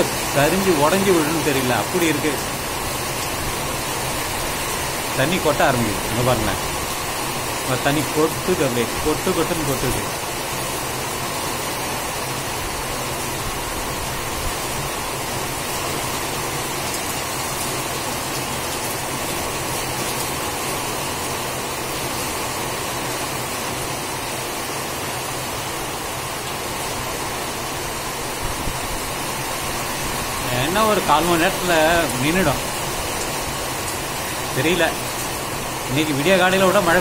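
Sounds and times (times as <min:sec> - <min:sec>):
heavy rain hissing: 0:00.0 - 0:37.0
water pouring off a roof: 0:00.0 - 0:37.0.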